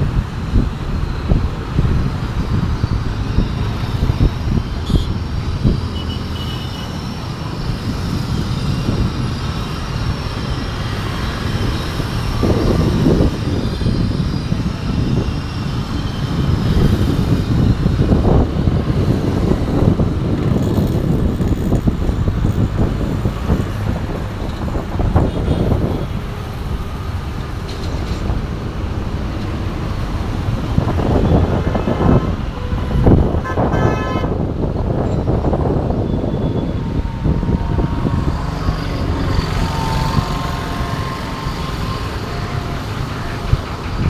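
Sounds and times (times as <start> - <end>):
train wheels rumbling on bridge: 0.0 - 44.0.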